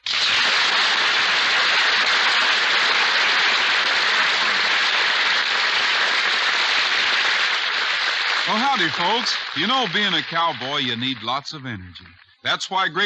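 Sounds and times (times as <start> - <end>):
audience applause: 0.0 - 12.3.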